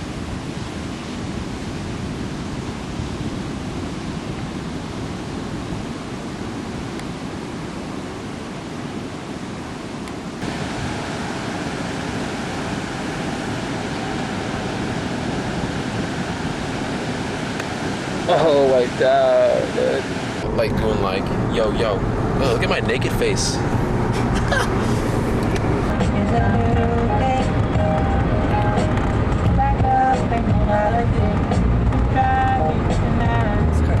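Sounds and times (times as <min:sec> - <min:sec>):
ocean surf: 0:00.0 - 0:34.0
wind: 0:00.0 - 0:34.0.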